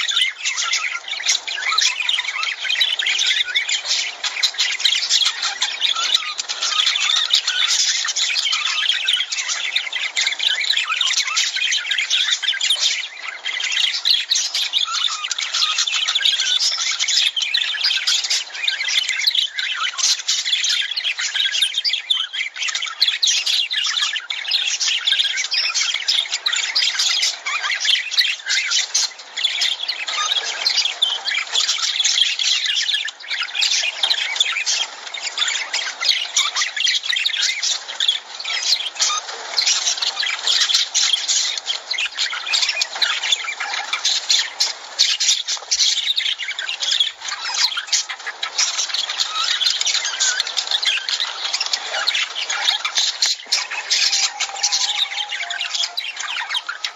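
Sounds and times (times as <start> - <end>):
flock of birds chattering: 0.0 - 56.9.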